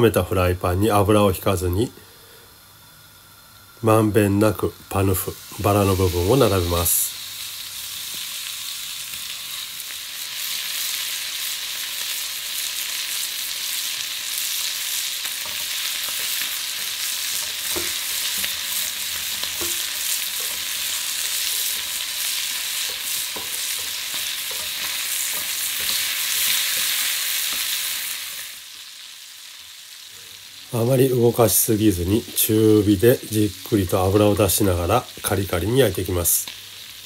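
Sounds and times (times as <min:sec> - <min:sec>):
meat sizzling in a frying pan: 0:00.0 - 0:37.0.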